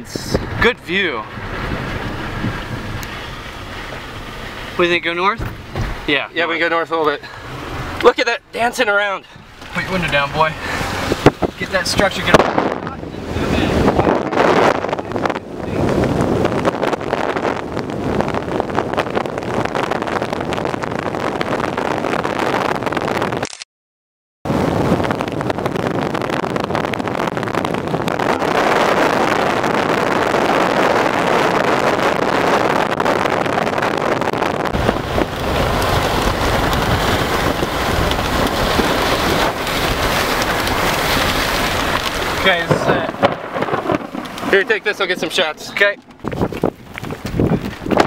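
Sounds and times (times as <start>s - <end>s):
wind buffeting microphone: 0.0s - 6.8s, 7.4s - 23.4s, 24.5s - 48.0s
vehicle rumbling on dirt road: 0.0s - 23.4s, 24.5s - 48.0s.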